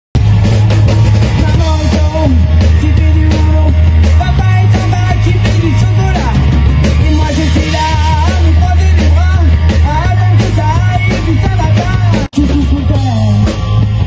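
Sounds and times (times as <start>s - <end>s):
electric guitar: 0.2s - 14.0s
heavy bass: 0.2s - 14.0s
steady drum beat: 0.2s - 14.0s
man singing: 1.3s - 13.6s.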